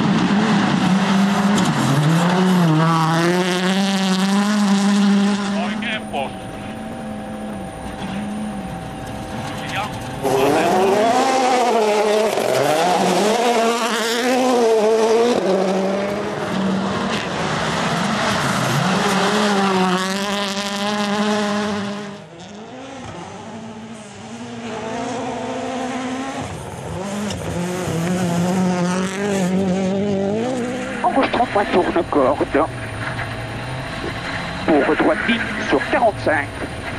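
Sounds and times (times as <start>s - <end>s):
rally car engines at full throttle: 0.0s - 36.9s.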